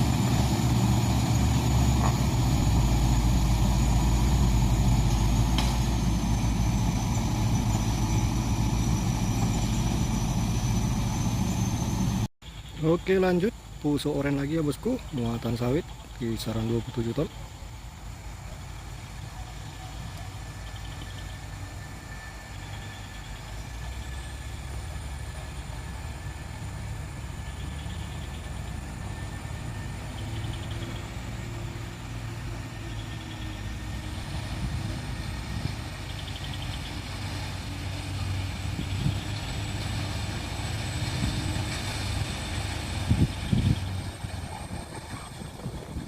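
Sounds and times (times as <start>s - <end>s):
truck diesel engine under load: 0.0s - 12.3s, 12.9s - 46.0s.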